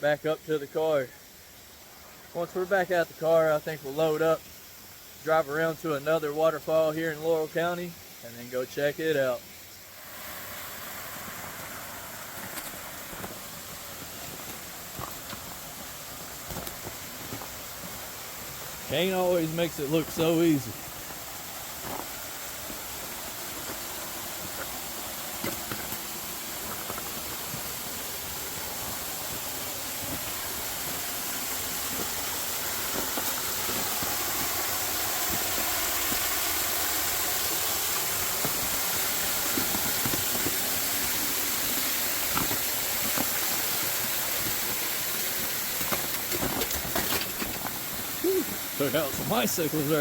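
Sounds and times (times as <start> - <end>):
waterfall rushing: 10.0 - 50.0.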